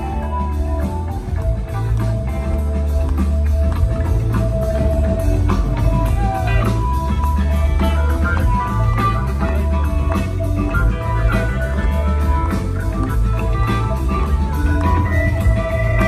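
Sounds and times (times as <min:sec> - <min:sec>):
bass guitar: 0:00.0 - 0:16.0
drum kit: 0:00.0 - 0:16.0
electric guitar lead with bent notes: 0:00.0 - 0:16.0
electric guitars: 0:00.0 - 0:16.0.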